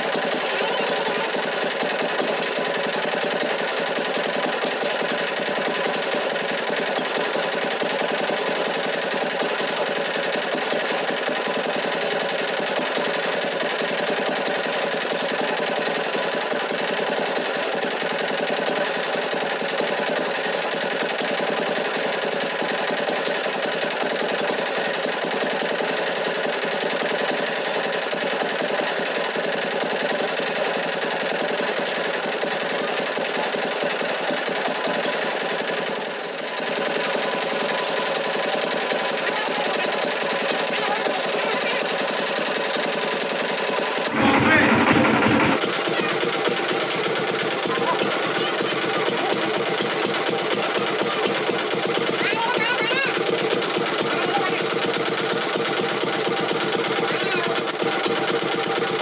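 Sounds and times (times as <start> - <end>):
engine running with rapid rattle: 0.0 - 59.0.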